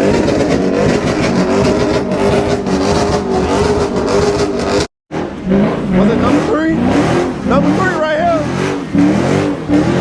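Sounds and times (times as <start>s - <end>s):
car engine at high revs: 0.0s - 10.0s
cars noise: 0.0s - 10.0s.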